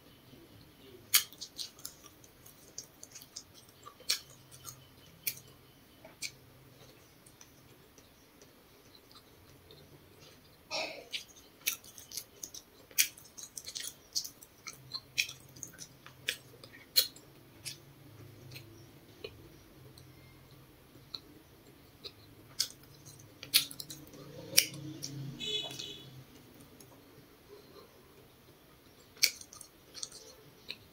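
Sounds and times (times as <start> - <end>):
mouth clicks and smacks: 0.8 - 10.5, 11.1 - 30.9
chewing food: 0.9 - 30.9.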